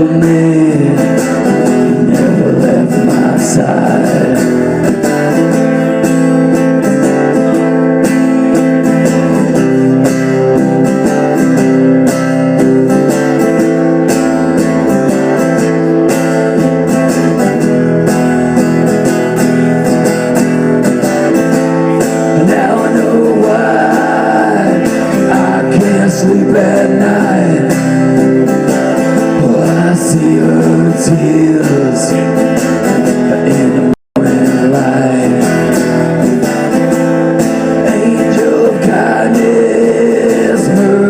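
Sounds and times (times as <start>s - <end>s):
guitar strumming slow blues: 0.0s - 41.0s.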